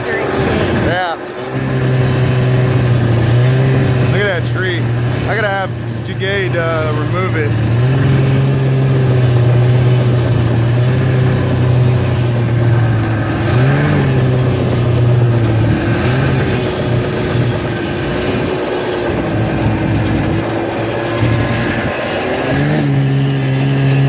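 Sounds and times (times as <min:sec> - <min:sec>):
small vehicle engine running: 0:00.0 - 0:24.0.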